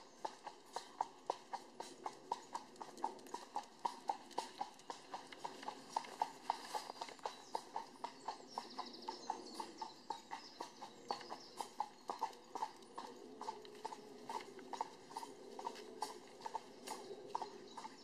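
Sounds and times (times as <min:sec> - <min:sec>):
horse hooves clip-clopping on pavement: 0:00.0 - 0:18.0.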